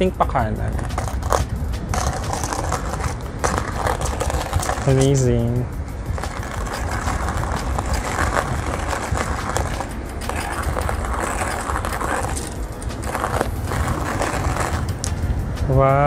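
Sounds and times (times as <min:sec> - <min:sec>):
hand-cranked coffee grinder crunching: 0:00.8 - 0:05.2, 0:06.1 - 0:15.0.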